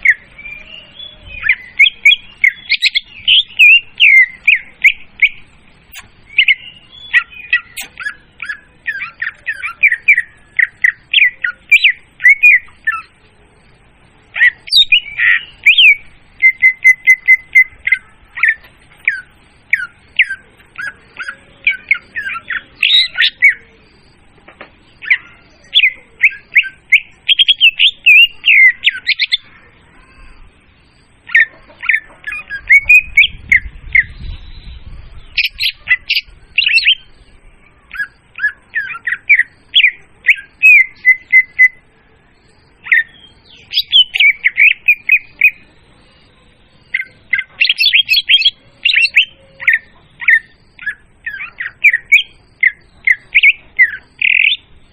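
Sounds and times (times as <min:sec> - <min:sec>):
bird chirps and whistles: 0:00.0 - 0:13.1, 0:14.4 - 0:24.2, 0:24.9 - 0:37.2, 0:37.9 - 0:41.8, 0:42.8 - 0:45.7, 0:46.8 - 0:54.7.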